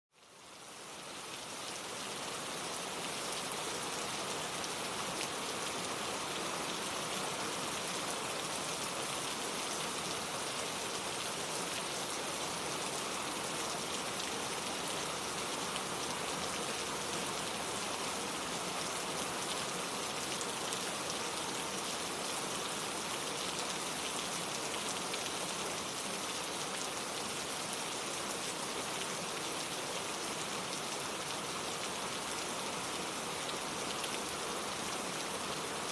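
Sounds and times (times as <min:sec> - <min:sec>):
steady rain falling: 0:00.1 - 0:35.9.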